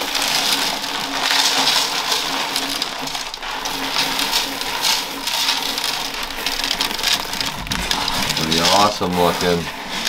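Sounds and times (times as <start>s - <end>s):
gravel pouring into tank: 0.0s - 10.0s.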